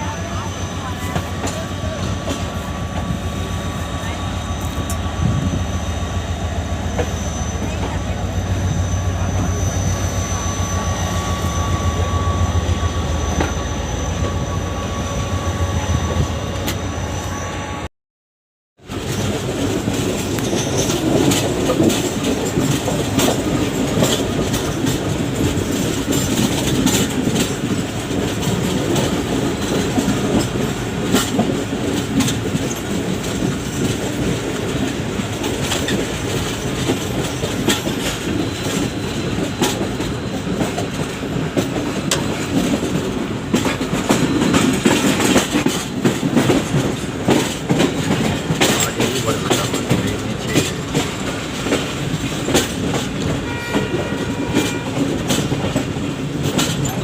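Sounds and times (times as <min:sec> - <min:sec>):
train wheels clattering on rails: 0:00.0 - 0:16.8, 0:18.8 - 0:57.0.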